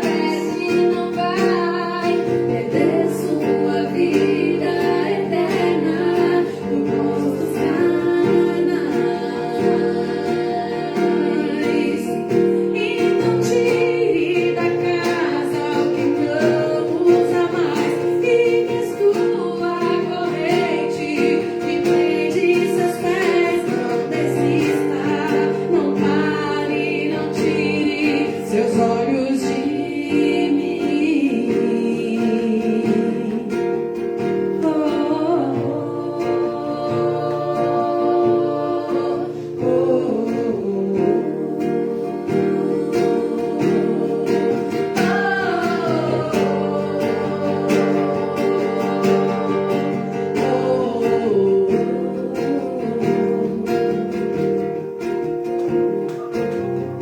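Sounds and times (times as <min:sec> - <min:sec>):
guitar chords: 0:00.0 - 0:57.0
person singing: 0:00.0 - 0:57.0.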